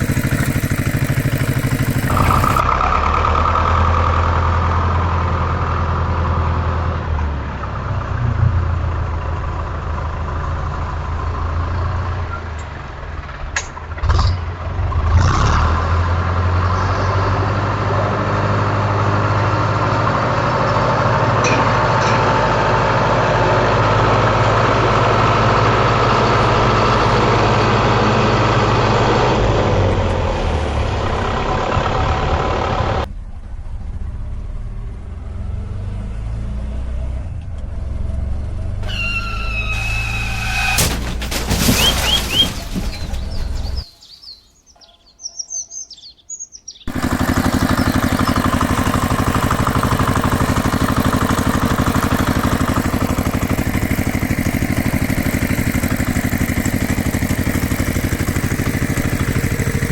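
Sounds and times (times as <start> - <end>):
vehicle engine running: 0.0 - 15.4, 16.1 - 43.9, 46.9 - 59.9.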